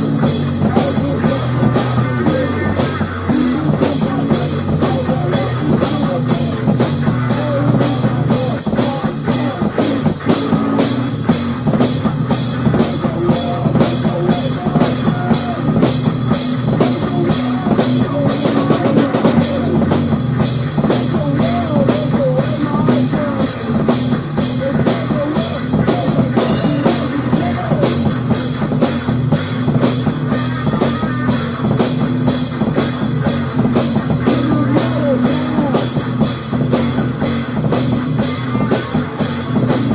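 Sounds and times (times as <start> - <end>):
drum kit beat: 0.0 - 39.9
loud rock music: 0.0 - 39.9.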